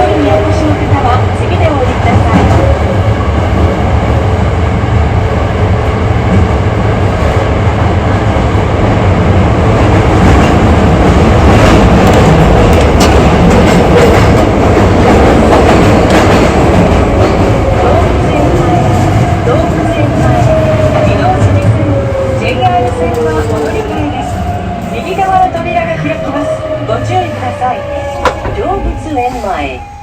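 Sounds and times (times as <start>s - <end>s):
train wheel and rail noise: 0.0s - 30.0s.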